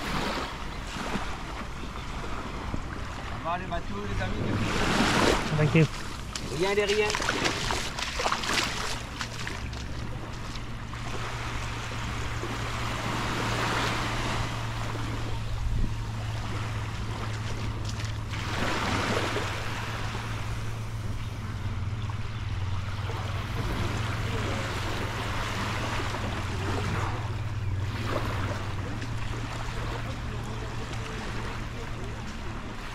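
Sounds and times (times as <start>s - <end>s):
waves washing on sandy beach: 0.0s - 32.9s.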